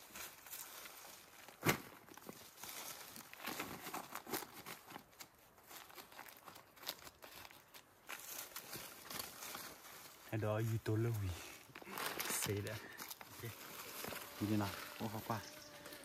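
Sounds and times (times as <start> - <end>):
dry leaves rustling: 0.0 - 16.0
hands digging in soil: 2.4 - 16.0.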